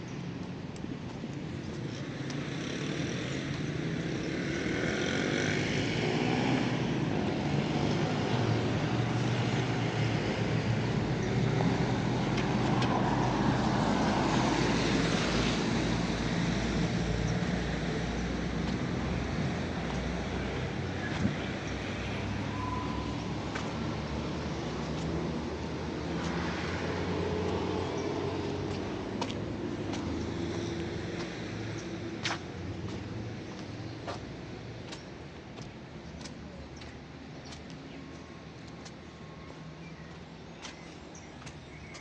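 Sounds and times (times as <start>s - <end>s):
tyres on road: 0.0s - 42.0s.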